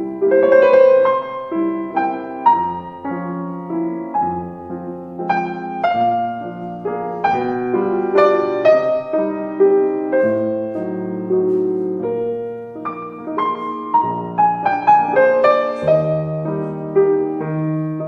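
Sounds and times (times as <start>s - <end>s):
soft slow piano music: 0.0s - 18.0s.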